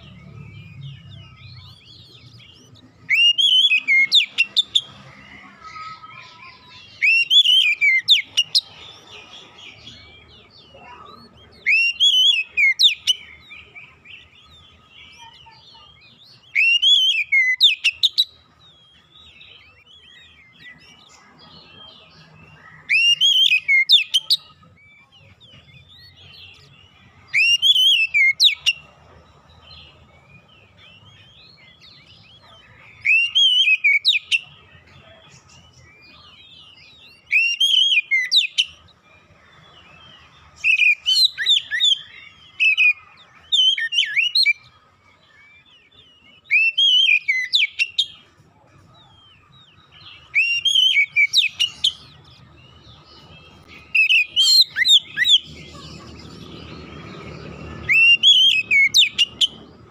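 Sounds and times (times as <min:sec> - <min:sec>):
bird singing whistled notes: 0:00.0 - 0:59.9.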